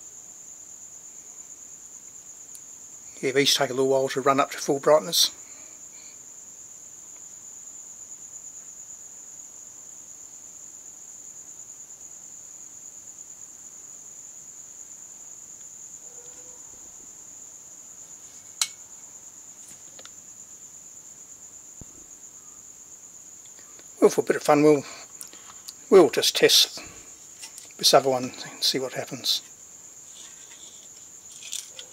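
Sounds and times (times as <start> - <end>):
cricket trilling: 0.0 - 31.9.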